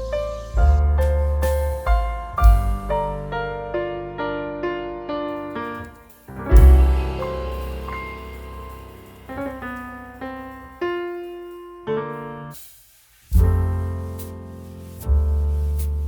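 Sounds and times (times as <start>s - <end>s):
soft slow piano music: 0.0s - 12.6s, 13.3s - 16.0s.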